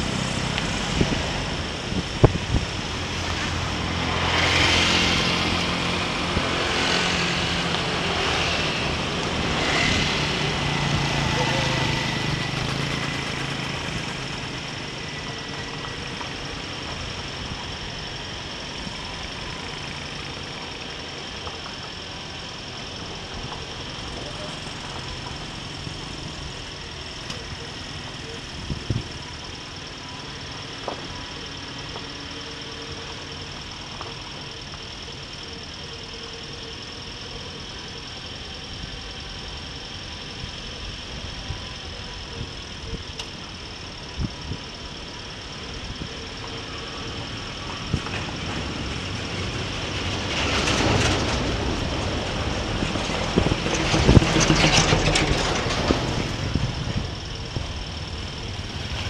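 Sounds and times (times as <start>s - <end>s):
motorcycle engine running: 0.0s - 49.5s
wind and road noise: 0.0s - 59.0s.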